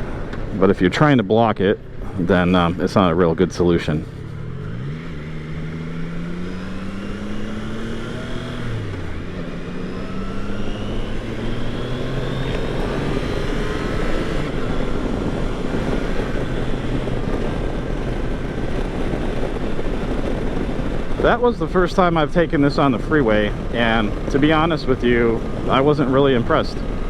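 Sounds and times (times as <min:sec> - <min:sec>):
motorcycle engine accelerating: 0:00.0 - 0:27.0
wind rush over helmet: 0:00.0 - 0:27.0.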